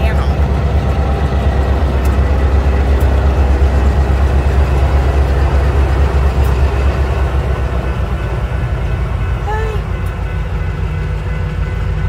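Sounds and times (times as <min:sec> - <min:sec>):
diesel locomotive engines droning: 0:00.0 - 0:12.0
train running noise: 0:00.0 - 0:12.0.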